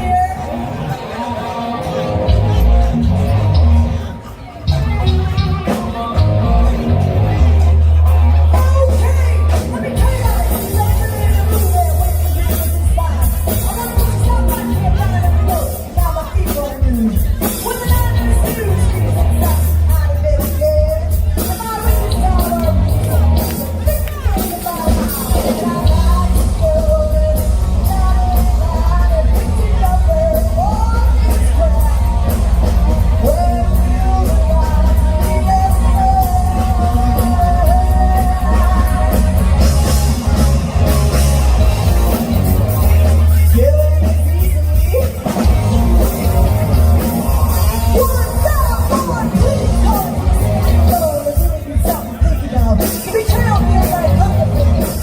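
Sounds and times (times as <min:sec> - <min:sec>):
drums: 0:00.0 - 0:55.0
live rock band playing: 0:00.0 - 0:55.0
person singing lead vocal: 0:00.0 - 0:55.0
heavy bass: 0:01.8 - 0:51.8, 0:52.4 - 0:55.0.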